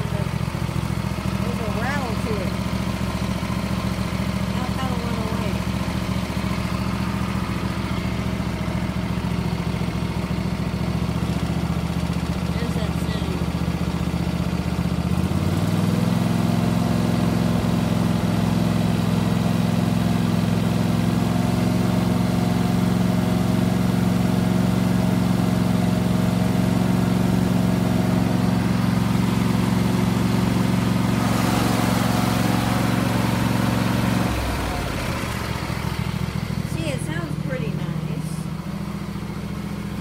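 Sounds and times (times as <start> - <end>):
lawn tractor engine running: 0.0 - 40.0.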